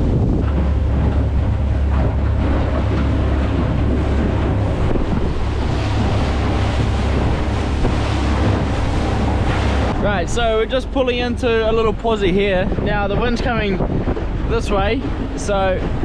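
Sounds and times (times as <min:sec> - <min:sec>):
steady low rumble: 0:00.0 - 0:16.0
water rushing: 0:00.0 - 0:16.0
wind buffeting microphone: 0:00.0 - 0:16.0.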